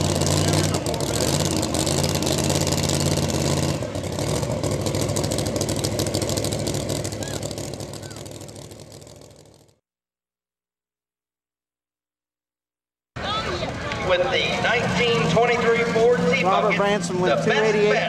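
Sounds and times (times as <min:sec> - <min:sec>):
truck engine idling: 0:00.0 - 0:09.8, 0:13.2 - 0:18.0.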